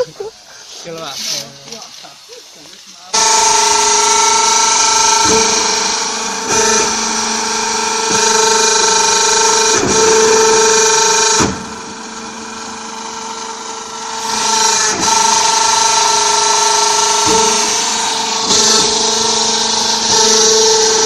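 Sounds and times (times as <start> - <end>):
brick press motor whining: 3.1 - 21.0.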